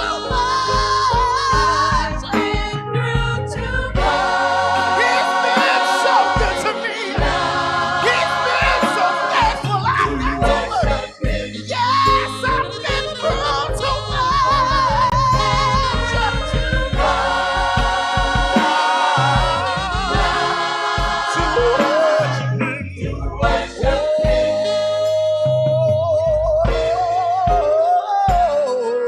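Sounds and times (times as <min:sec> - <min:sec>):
voices singing with vibrato: 0:00.0 - 0:25.9
band with beat and bass: 0:00.0 - 0:28.9.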